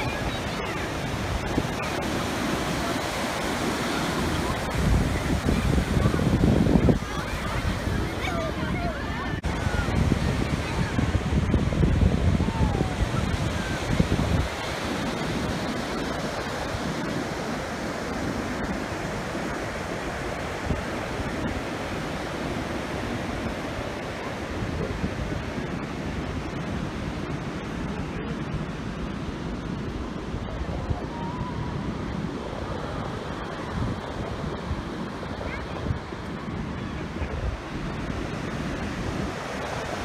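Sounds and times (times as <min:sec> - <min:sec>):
surf washing onto beach: 0:00.0 - 0:40.0
wind buffeting microphone: 0:00.0 - 0:40.0.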